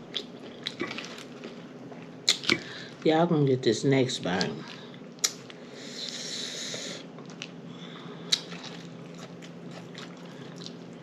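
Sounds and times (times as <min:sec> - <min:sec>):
person chewing food: 0:00.0 - 0:02.9, 0:04.6 - 0:11.0.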